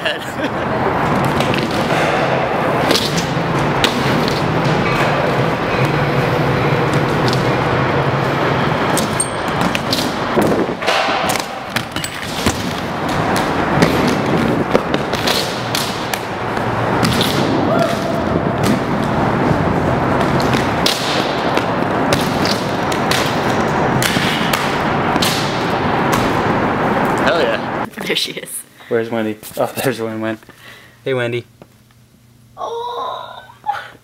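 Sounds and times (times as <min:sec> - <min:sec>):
skate wheels rolling on concrete: 0:00.2 - 0:27.9.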